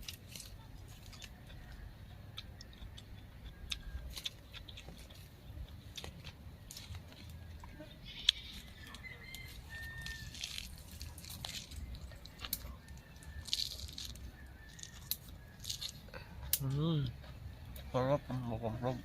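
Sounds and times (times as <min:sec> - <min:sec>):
chewing crunchy vegetables: 0:00.0 - 0:18.0.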